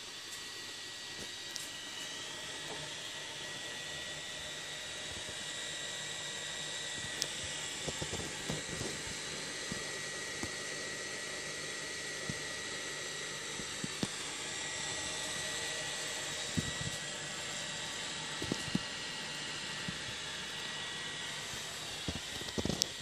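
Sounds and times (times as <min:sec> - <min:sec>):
aquarium equipment hiss and whine: 0:00.0 - 0:23.0.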